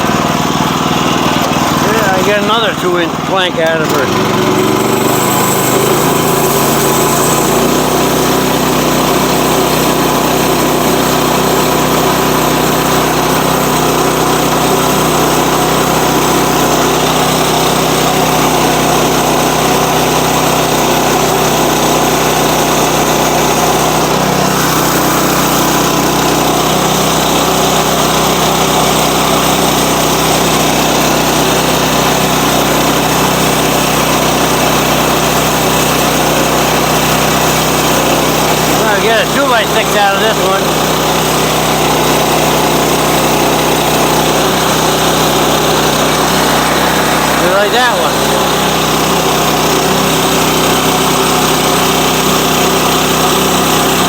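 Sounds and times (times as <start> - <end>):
saw cutting wood: 0.0 - 54.0
sawmill engine running under load: 0.0 - 54.0.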